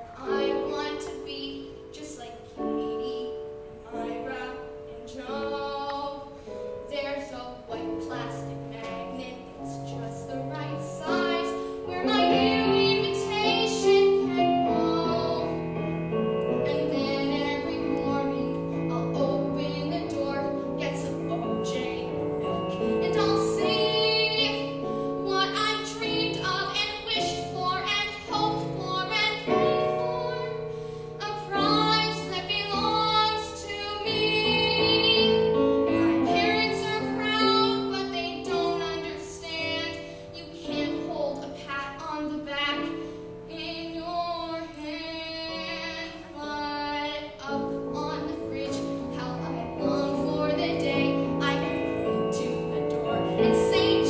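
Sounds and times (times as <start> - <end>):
girl singing: 0.0 - 54.0
instrumental accompaniment: 0.0 - 54.0.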